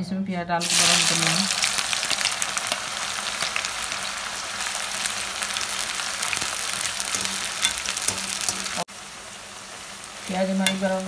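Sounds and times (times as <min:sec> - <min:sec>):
onions sizzling in hot oil: 0:00.6 - 0:11.0.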